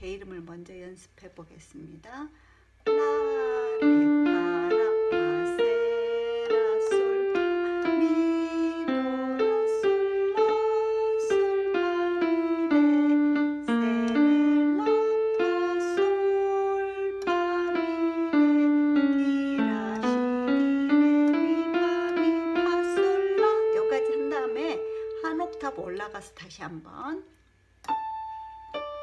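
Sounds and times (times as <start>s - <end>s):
keyboard piano melody: 2.9s - 26.3s, 27.8s - 29.0s.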